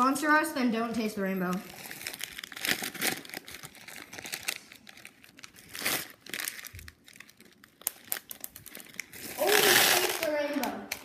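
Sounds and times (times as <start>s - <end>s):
plastic candy wrapper crinkling: 1.4s - 11.0s.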